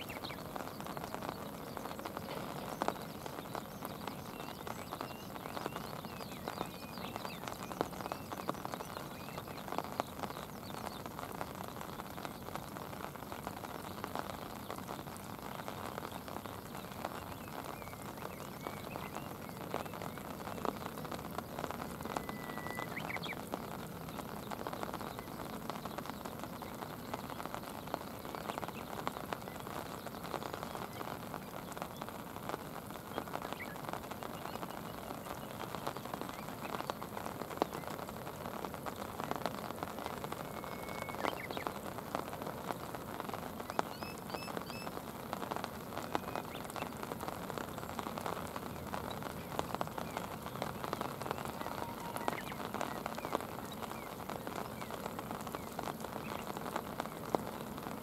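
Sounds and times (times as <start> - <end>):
rain falling on river: 0.0 - 58.0.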